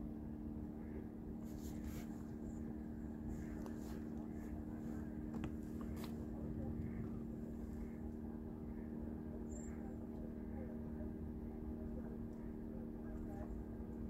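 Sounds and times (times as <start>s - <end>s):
engine humming: 2.3s - 14.0s.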